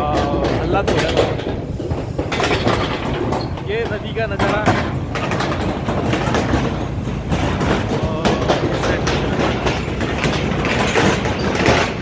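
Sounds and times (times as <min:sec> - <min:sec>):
bridge deck rattling: 0:00.0 - 0:12.0
vehicle rumbling over bridge: 0:00.0 - 0:12.0.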